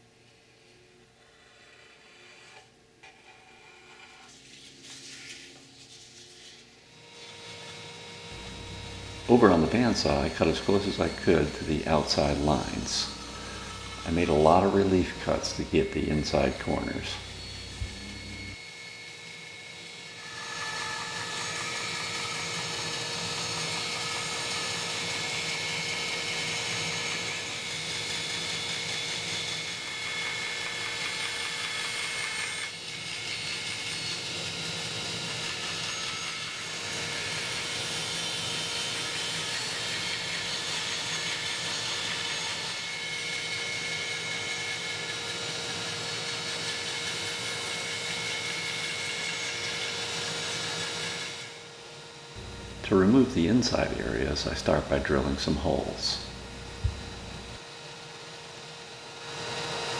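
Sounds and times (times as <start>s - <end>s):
bandsaw cutting wood: 7.0s - 51.6s, 52.4s - 57.6s.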